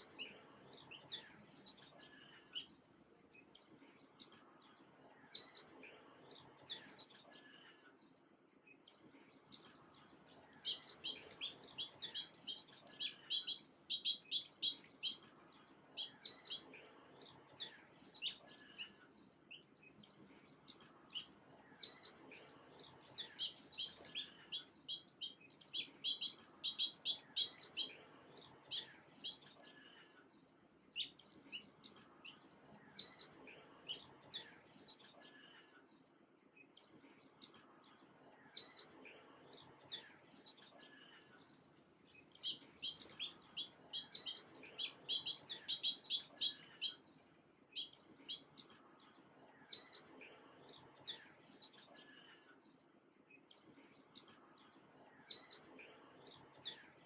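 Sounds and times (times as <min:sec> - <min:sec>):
faint background hiss: 0:00.0 - 0:57.0
songbirds chirping: 0:00.0 - 0:57.0.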